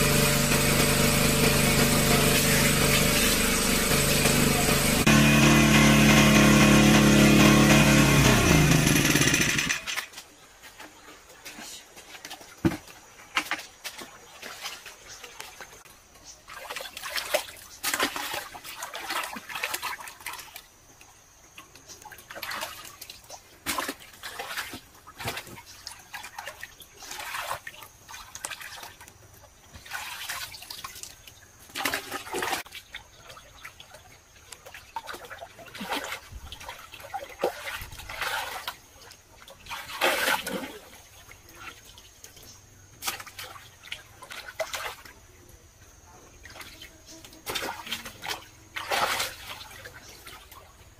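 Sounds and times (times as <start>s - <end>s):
muddy water splashing: 0.0s - 50.9s.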